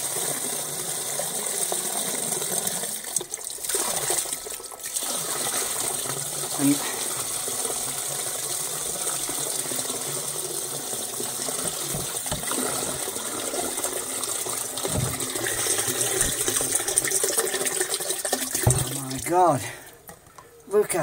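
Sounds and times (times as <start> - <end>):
water pouring onto drain grate: 0.0 - 20.4.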